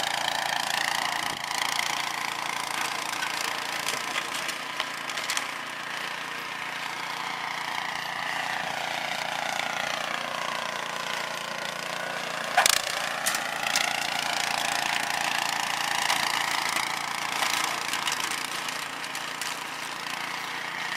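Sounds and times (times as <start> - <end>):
snowblower engine running: 0.0 - 20.9.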